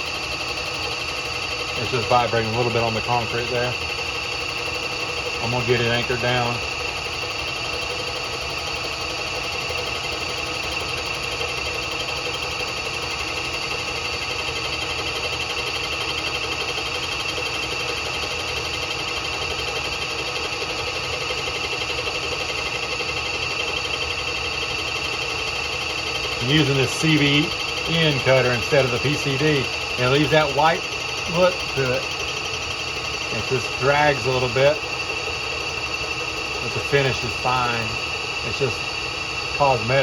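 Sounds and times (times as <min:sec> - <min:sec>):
milling machine whining: 0:00.0 - 0:40.0.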